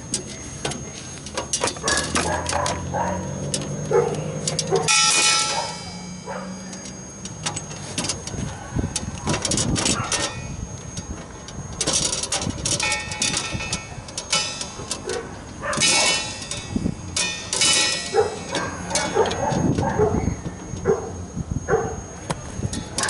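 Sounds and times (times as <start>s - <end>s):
metallic clicks and knocks: 0.0s - 5.9s, 6.7s - 20.9s.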